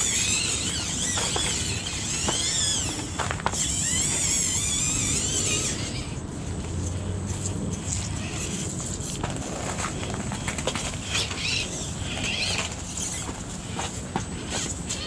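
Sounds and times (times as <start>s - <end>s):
toy car tyres clicking on rock: 0.0s - 15.0s.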